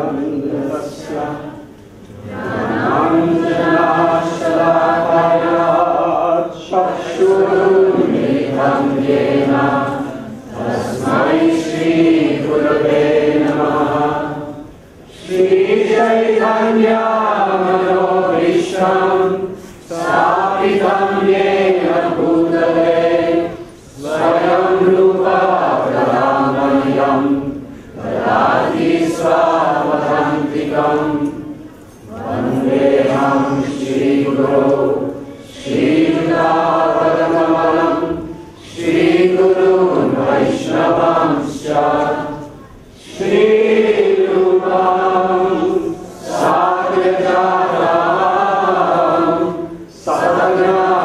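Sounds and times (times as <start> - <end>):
voices chanting prayers: 0.0 - 51.0.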